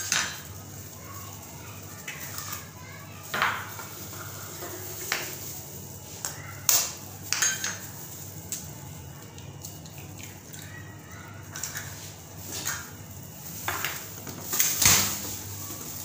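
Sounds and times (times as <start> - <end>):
utensils and dishes clinking: 0.0 - 8.8, 9.5 - 16.0.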